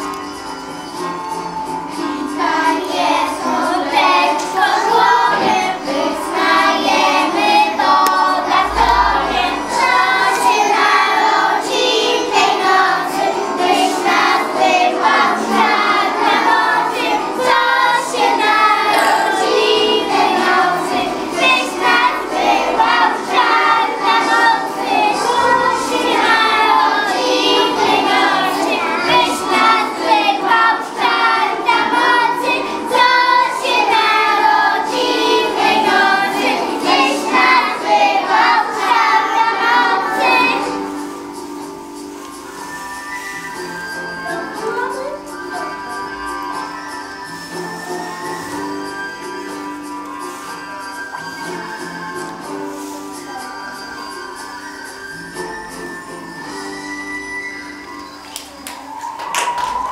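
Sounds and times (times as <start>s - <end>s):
children singing a carol: 0.0s - 57.9s.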